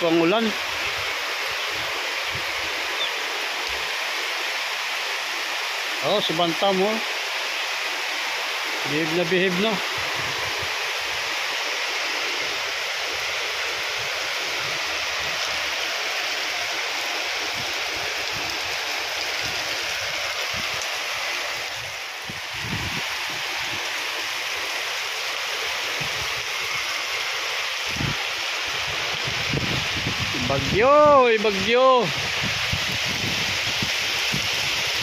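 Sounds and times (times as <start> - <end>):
wind gusting against microphone: 0.0 - 5.9, 7.1 - 24.8, 25.6 - 35.0
heavy rain pouring: 0.0 - 35.0.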